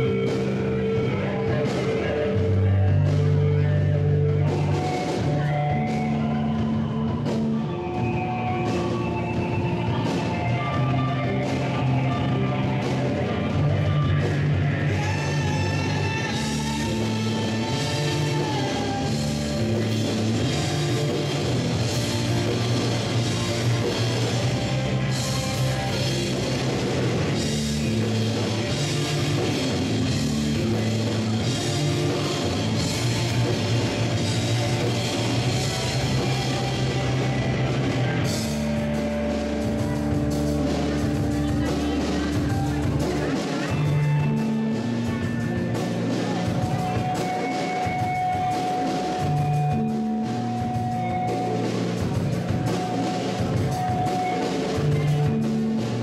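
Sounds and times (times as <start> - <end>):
bass line: 0.0 - 56.0
rock band playing: 0.0 - 56.0.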